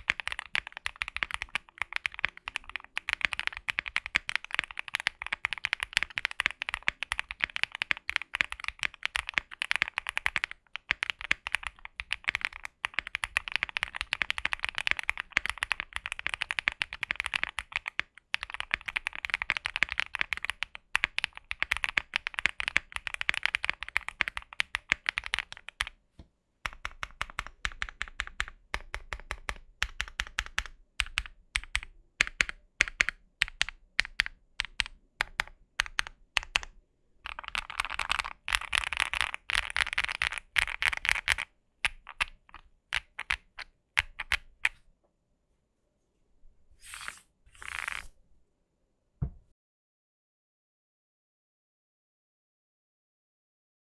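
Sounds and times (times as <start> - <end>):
mechanical keyboard typing: 0.0 - 26.0, 26.7 - 44.8.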